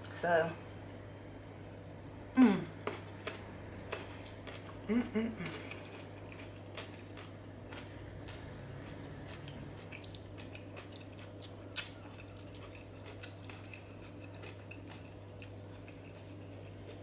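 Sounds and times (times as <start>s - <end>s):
faint chewing: 2.8s - 17.0s.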